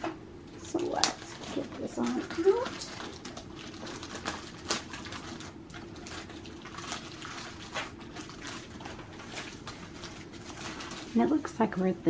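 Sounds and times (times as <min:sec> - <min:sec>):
plastic wrapping crinkling: 0:00.4 - 0:11.9.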